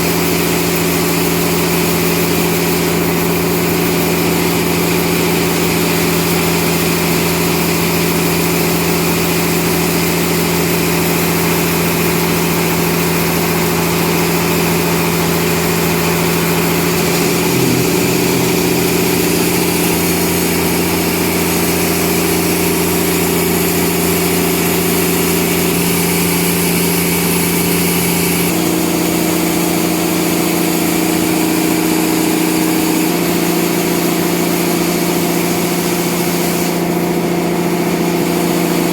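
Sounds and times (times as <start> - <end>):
sawmill machinery humming: 0.1 - 33.0.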